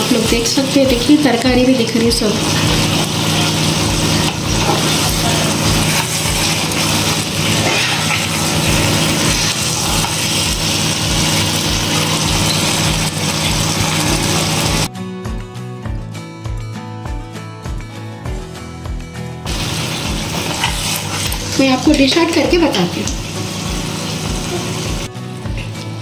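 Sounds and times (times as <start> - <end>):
background music with soft beat: 0.0 - 26.0.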